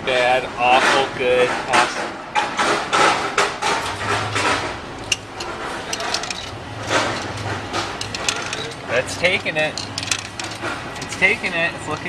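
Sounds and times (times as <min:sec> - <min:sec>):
vending machine motor hum: 0:01.6 - 0:12.0.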